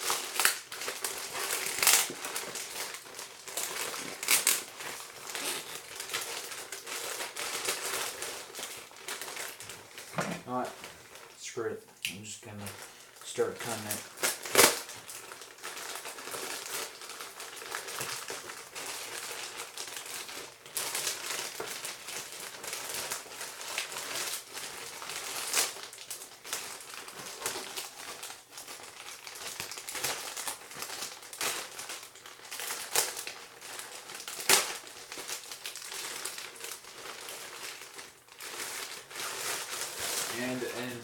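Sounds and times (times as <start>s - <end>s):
packaging crinkling and crackling: 0.0s - 11.4s, 12.1s - 41.0s.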